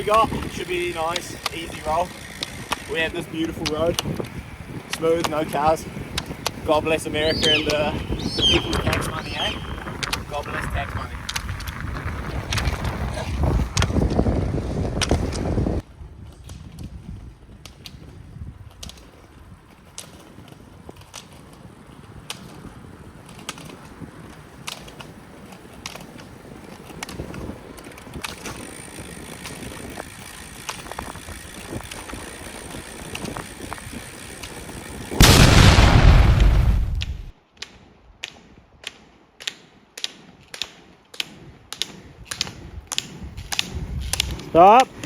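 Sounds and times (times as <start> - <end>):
ski pole tips clicking on asphalt: 0.0 - 7.0, 9.9 - 13.1, 13.7 - 15.6, 16.2 - 35.2, 37.0 - 45.0
roller-ski wheels rolling on road: 0.0 - 35.3, 36.4 - 45.0
wind noise on microphone: 0.0 - 38.8, 41.2 - 45.0.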